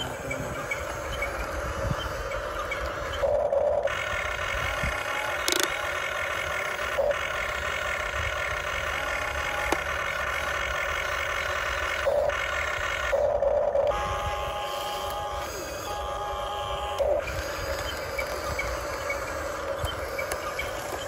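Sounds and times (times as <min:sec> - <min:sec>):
toy excavator motor whine: 0:00.0 - 0:21.0.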